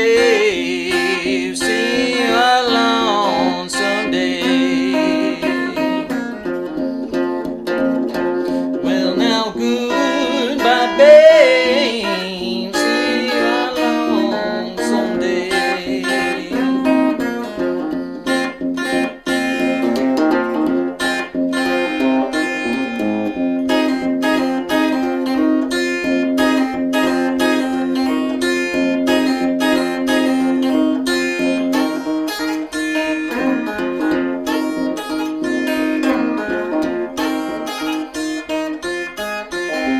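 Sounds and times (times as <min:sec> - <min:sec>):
acoustic guitar country-blues: 0:00.0 - 0:39.9.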